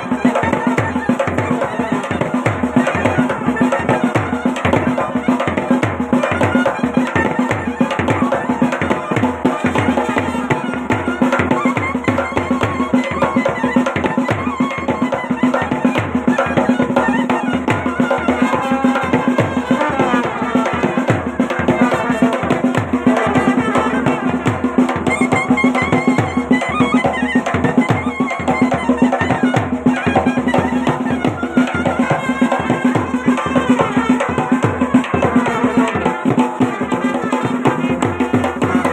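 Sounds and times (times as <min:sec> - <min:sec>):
drums beating fast rhythm: 0:00.0 - 0:38.9
wavering wind instrument melody: 0:00.0 - 0:38.9.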